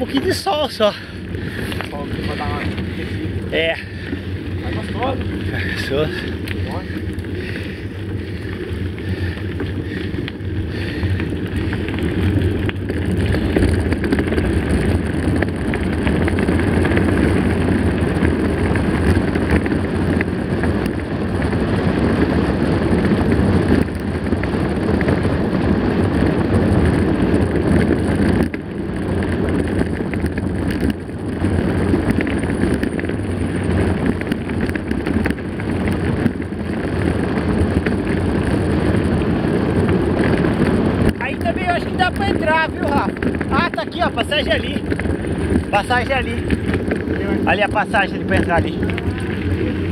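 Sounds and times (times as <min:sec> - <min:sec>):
bike tyres rolling on gravel: 0:00.0 - 0:49.9
wind buffeting microphone: 0:00.0 - 0:49.9.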